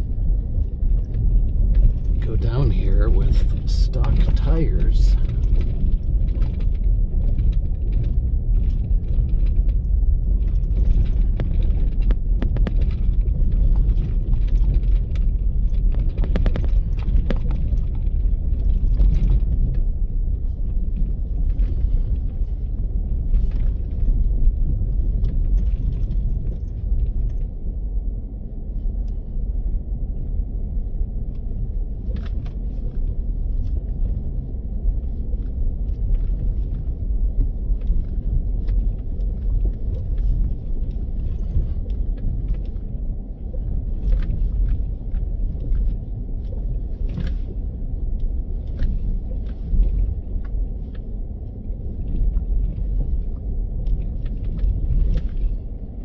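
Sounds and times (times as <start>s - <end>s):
car rumbling over dirt road: 0.0s - 56.0s.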